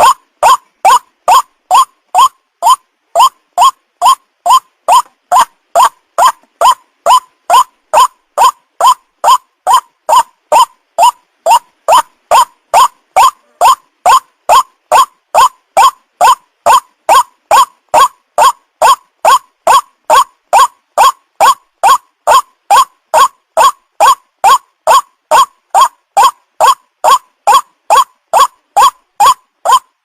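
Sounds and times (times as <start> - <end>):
waterhen call: 0.0 - 30.0.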